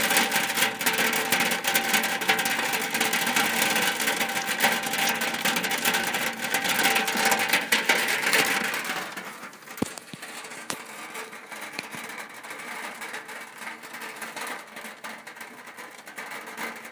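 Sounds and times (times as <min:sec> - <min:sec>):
rain on a roof: 0:00.0 - 0:16.9.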